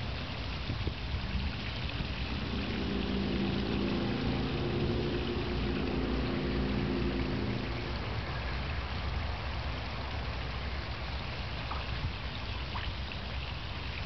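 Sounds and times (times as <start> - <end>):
low engine-like hum: 0.0 - 14.0
water splashing down rocks: 0.0 - 14.0.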